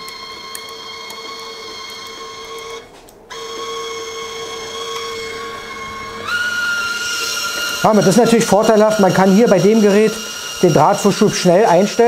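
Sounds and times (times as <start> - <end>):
welder wire-feed motor whine: 0.0 - 12.0.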